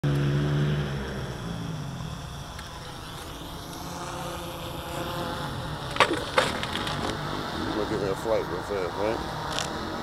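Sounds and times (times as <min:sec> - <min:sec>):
drone propellers humming: 0:00.0 - 0:10.0.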